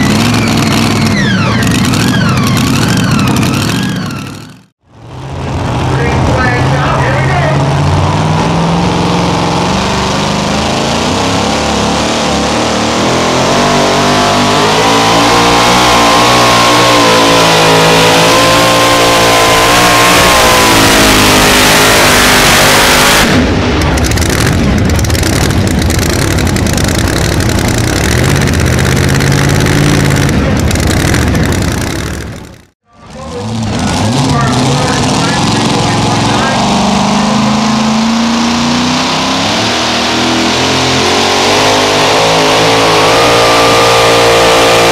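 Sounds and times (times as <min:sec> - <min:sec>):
truck engine at full throttle: 0:00.0 - 0:44.9.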